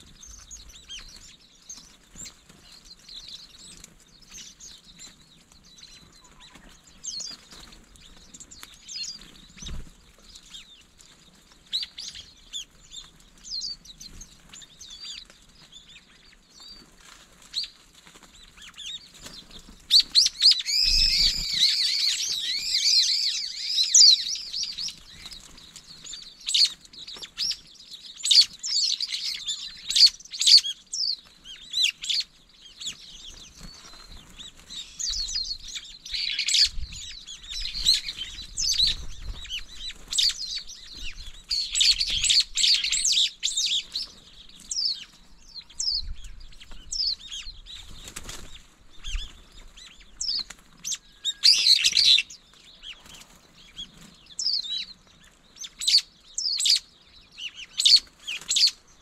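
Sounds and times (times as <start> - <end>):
birds calling and chirping: 0.0 - 59.0.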